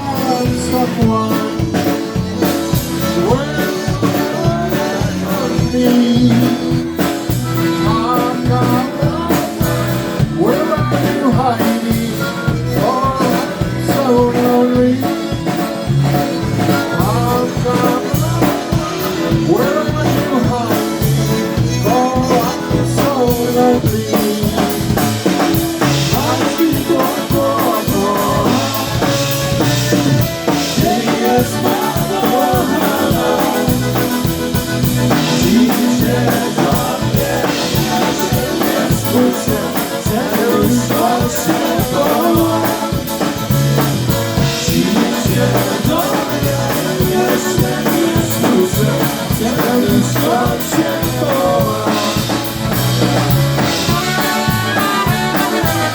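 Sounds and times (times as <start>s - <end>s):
drum kit beat: 0.0s - 55.9s
polka band playing: 0.0s - 55.9s.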